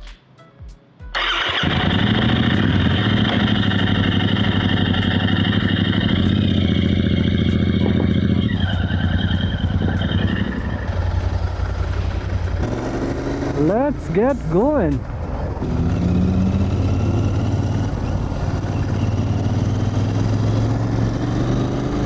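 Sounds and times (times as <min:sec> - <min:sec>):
motorcycle engine running: 0:01.2 - 0:22.0.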